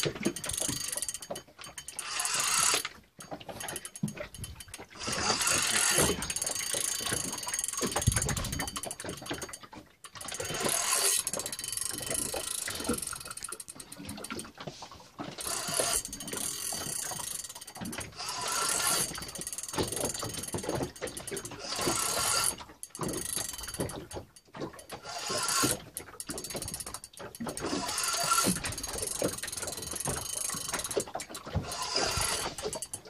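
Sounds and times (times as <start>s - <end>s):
fishing reel whirring and clicking: 0.0s - 33.0s.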